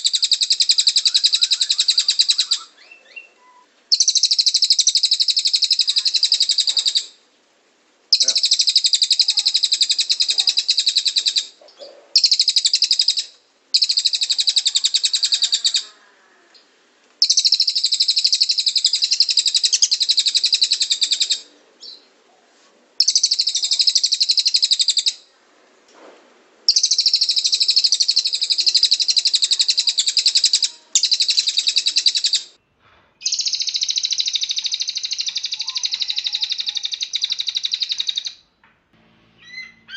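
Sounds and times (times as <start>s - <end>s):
bird singing rattling trills: 0.0s - 7.2s, 8.1s - 11.5s, 12.2s - 15.8s, 17.2s - 22.0s, 23.0s - 25.2s, 26.7s - 32.6s, 33.2s - 38.4s.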